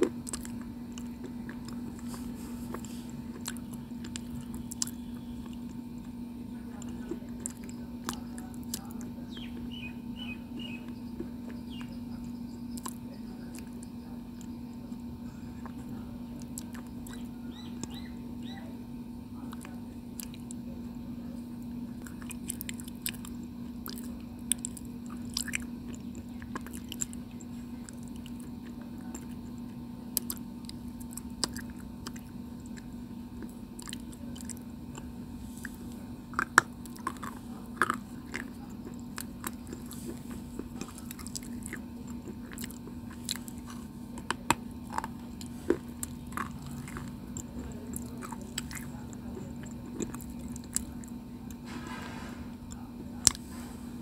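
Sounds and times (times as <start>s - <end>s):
chewing crunchy stone: 0.0s - 18.1s, 19.4s - 20.7s, 21.6s - 53.5s.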